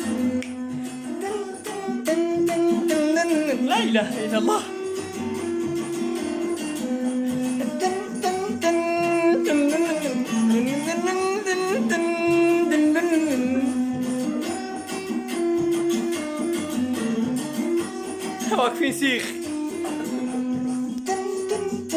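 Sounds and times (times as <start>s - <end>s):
plucked string instrument melody: 0.0s - 21.9s.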